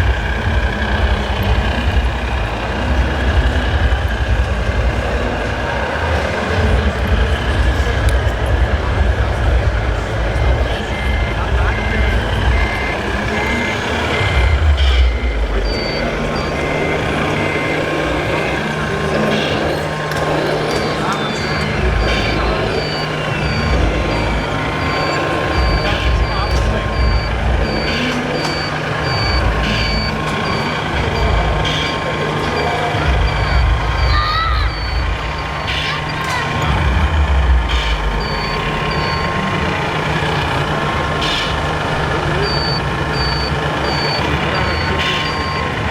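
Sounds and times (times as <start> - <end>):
reversing beeper: 0.0 - 45.9
simulated diesel engine rumble: 0.0 - 45.9
steady background din: 0.0 - 45.9
steady low hum: 0.0 - 45.9.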